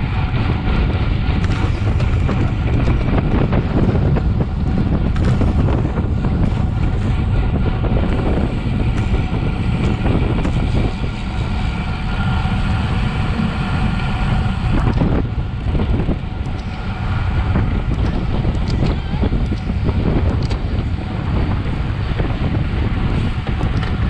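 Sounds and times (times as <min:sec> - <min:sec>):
bike tyres on tarmac: 0:00.0 - 0:24.0
wind on microphone: 0:00.0 - 0:24.0.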